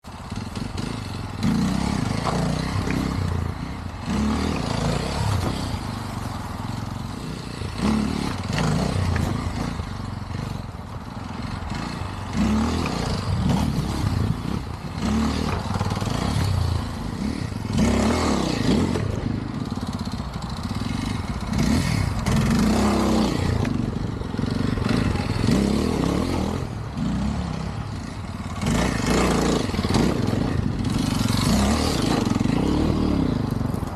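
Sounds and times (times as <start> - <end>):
dirt bike engine revving: 0.2 - 33.7.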